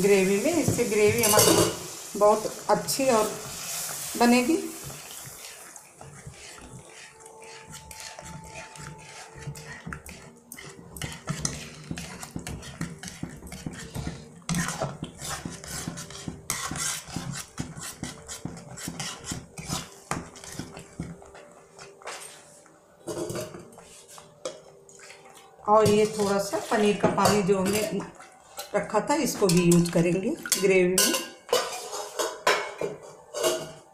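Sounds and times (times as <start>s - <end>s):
metal spatula scraping a pan: 0.0s - 33.9s.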